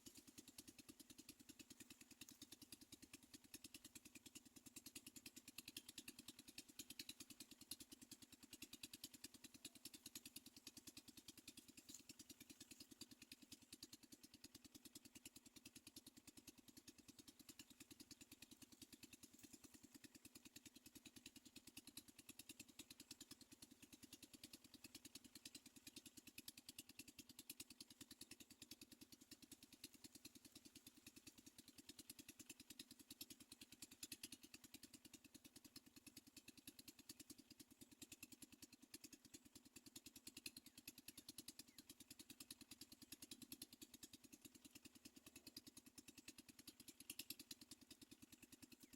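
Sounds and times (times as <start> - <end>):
faint fast pulsing hum: 0.0 - 48.9.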